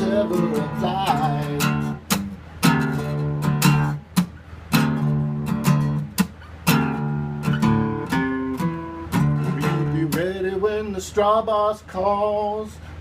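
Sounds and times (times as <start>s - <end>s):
acoustic guitar strumming chords: 0.0s - 12.6s.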